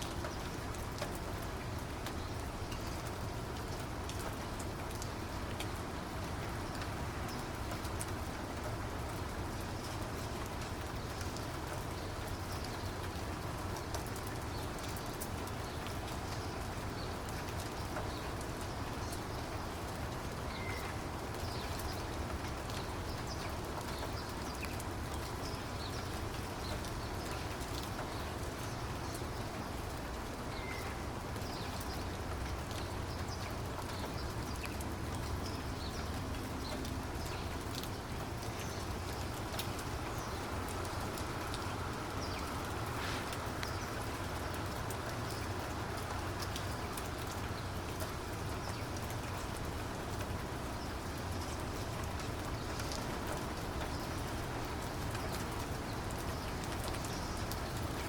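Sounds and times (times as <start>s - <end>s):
rain drops ticking: 0.0s - 58.0s.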